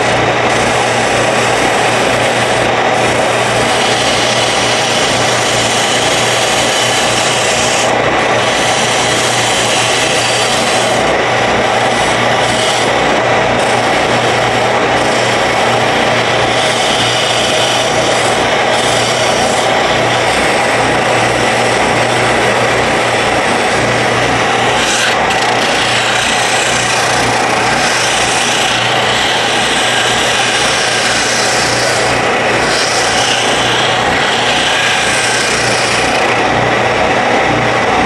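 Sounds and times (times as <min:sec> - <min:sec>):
power tool cutting wood: 0:00.0 - 0:38.0.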